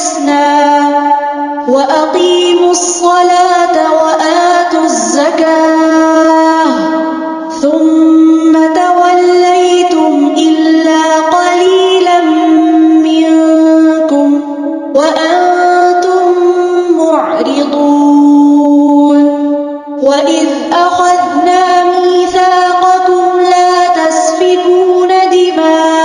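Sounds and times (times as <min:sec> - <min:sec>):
person chanting melodically: 0:00.0 - 0:26.0.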